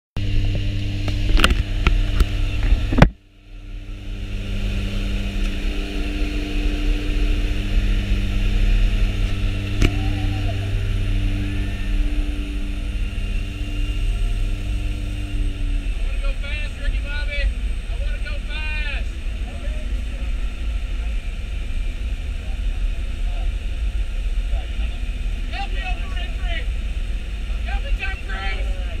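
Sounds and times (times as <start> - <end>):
plane engines droning: 0.2 - 29.0.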